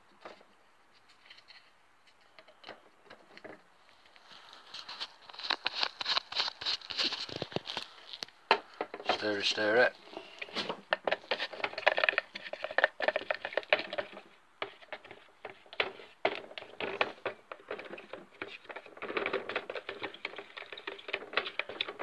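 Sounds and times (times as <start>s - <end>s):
stick scraping plastic bucket: 0.2s - 22.0s.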